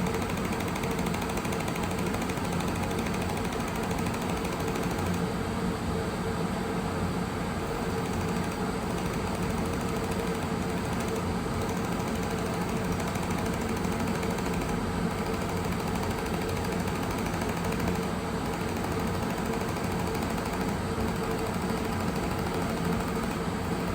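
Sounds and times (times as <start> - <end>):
laser welding machine hum: 0.0 - 23.9.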